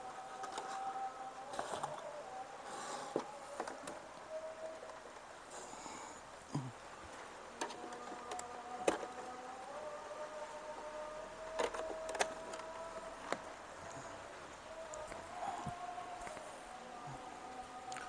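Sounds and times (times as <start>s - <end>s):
projector fan whine: 0.0s - 18.0s.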